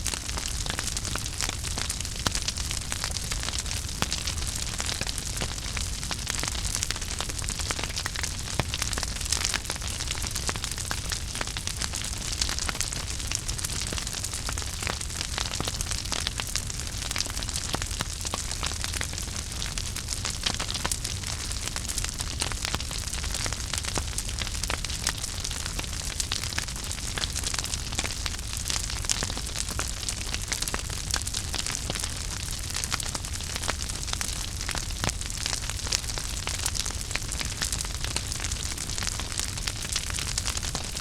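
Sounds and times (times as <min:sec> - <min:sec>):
crackles and pops of fire: 0:00.0 - 0:41.0
fire burning in a fireplace: 0:00.0 - 0:41.0.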